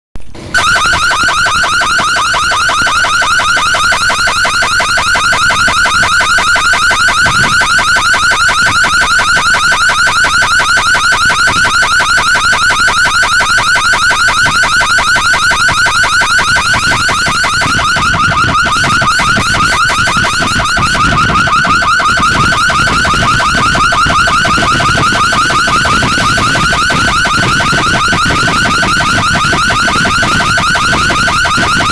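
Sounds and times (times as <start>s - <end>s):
car alarm warbling: 0.6s - 31.9s.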